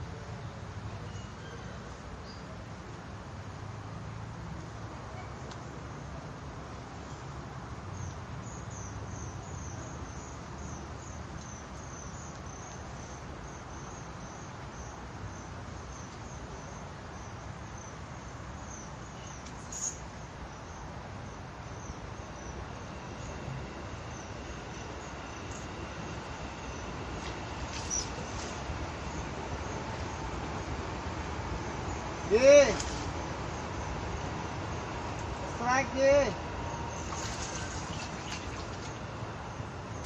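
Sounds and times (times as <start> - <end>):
outdoor background hiss: 0.0 - 40.0
insect chirping: 7.9 - 40.0.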